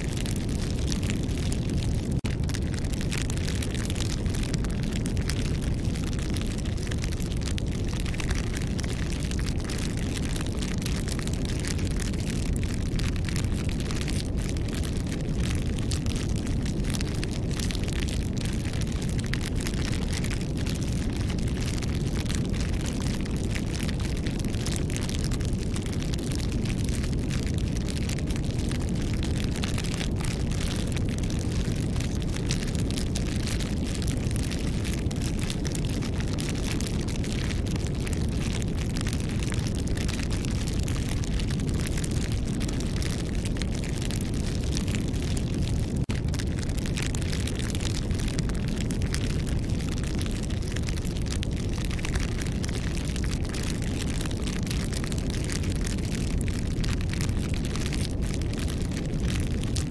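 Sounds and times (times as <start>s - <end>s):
low rumble of flames: 0.0s - 59.9s
campfire snaps and pops: 0.1s - 59.9s.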